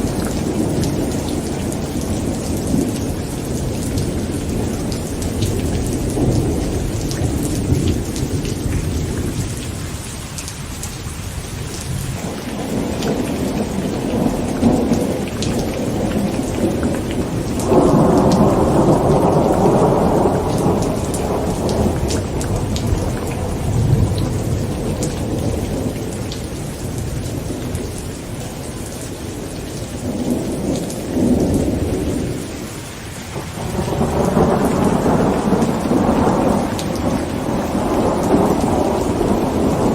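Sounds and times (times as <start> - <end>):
rolling thunder: 0.0 - 10.0, 11.8 - 32.7, 33.3 - 39.9
heavy rain on a tent: 0.0 - 39.9.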